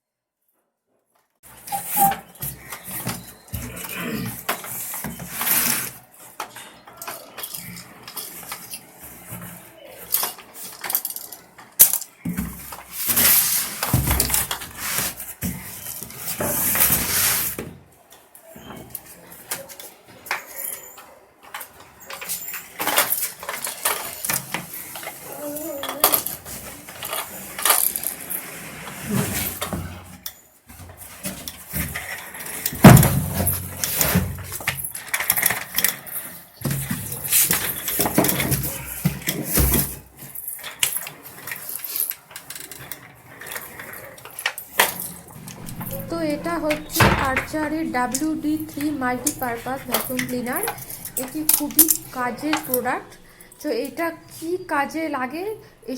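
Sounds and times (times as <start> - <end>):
parts clicking and clattering: 1.5 - 54.4.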